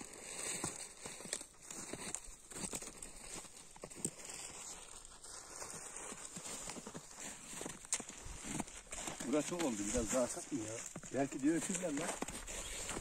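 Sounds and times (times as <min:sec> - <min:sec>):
crinkling: 0:00.0 - 0:13.0
footsteps crunching on snow: 0:00.0 - 0:13.0.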